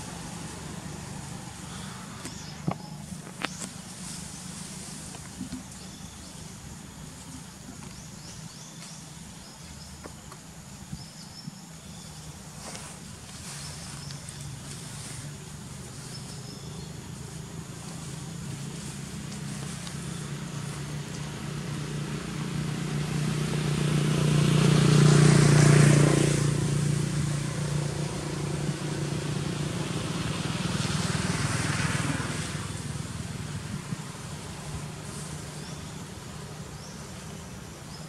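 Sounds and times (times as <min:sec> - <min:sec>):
vehicle engine passing by: 0:00.0 - 0:07.0, 0:12.2 - 0:38.0.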